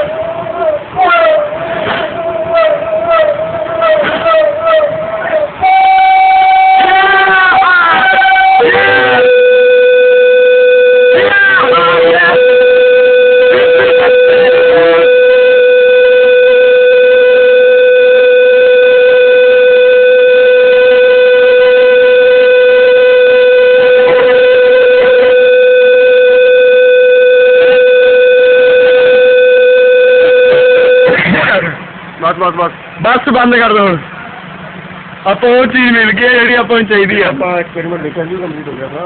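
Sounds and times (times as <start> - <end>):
pulse jet engine buzzing drone: 0.0 - 32.2.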